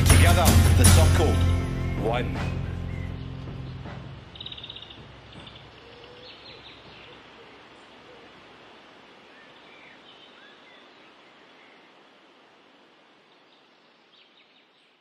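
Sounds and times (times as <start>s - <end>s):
stream running: 0.9s - 15.0s.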